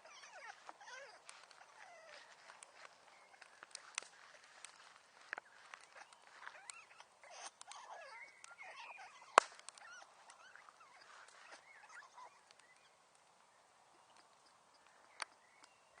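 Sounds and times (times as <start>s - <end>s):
wood fire crackling: 0.0s - 7.7s, 9.4s - 11.6s, 12.4s - 15.3s.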